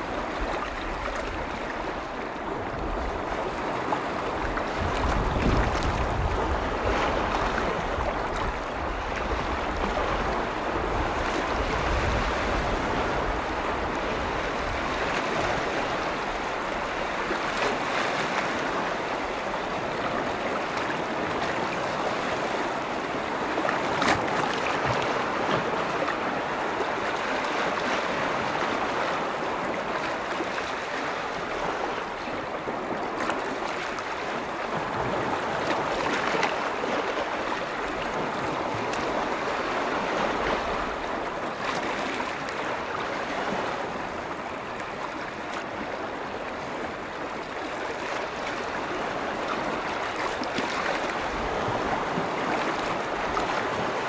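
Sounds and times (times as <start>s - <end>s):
lake waves lapping on shore: 0.0s - 54.0s
wind rumbling on microphone: 0.0s - 54.0s.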